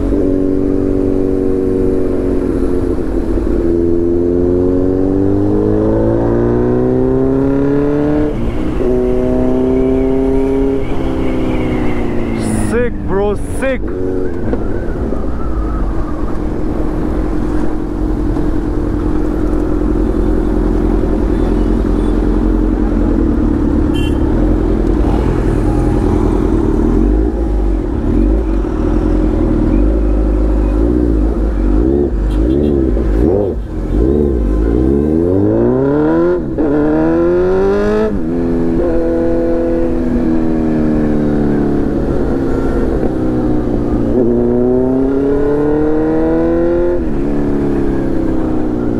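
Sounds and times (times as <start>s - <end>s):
motorcycle engine revving: 0.0s - 13.1s, 17.8s - 48.9s.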